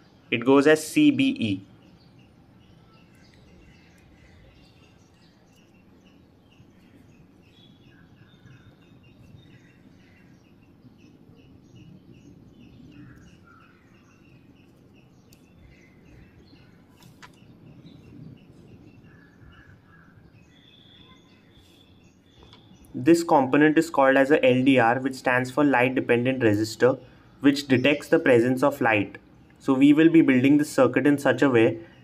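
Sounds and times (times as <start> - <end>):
bird chirping: 0.0 - 32.0.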